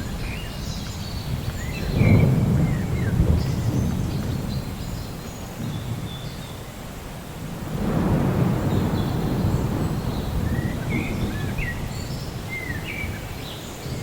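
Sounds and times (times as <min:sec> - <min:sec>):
low rumble of thunder: 0:00.0 - 0:14.0.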